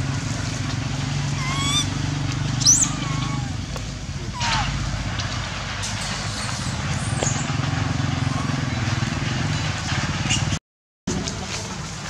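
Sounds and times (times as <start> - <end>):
vehicle engine humming: 0.0 - 10.6.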